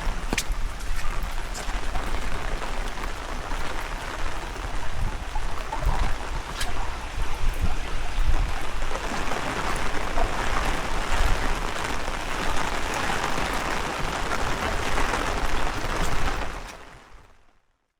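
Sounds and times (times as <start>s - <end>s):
heavy rain falling: 0.0s - 17.2s
wind gusts on microphone: 0.0s - 17.2s.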